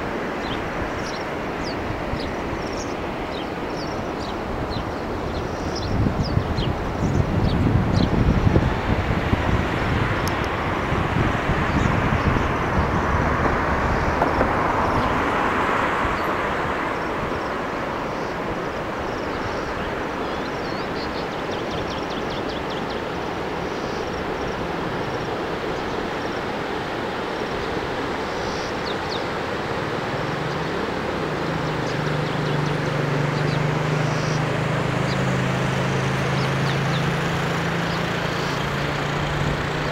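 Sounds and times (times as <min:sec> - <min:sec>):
road traffic engine hum: 0:00.0 - 0:39.9
wind noise on microphone: 0:00.0 - 0:39.9.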